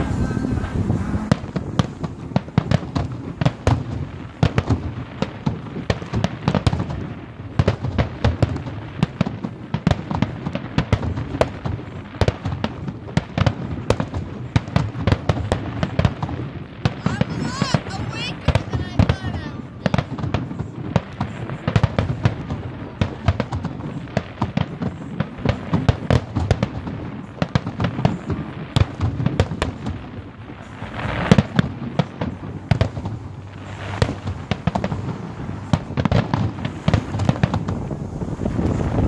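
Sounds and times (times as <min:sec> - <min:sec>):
fireworks cracking and banging: 0:00.0 - 0:39.0.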